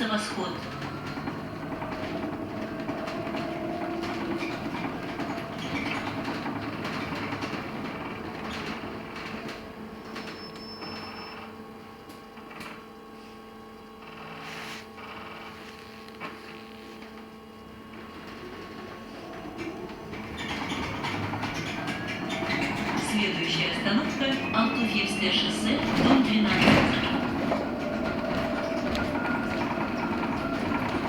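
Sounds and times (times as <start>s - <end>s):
bus rolling and drive noise: 0.0s - 13.4s, 14.0s - 31.0s.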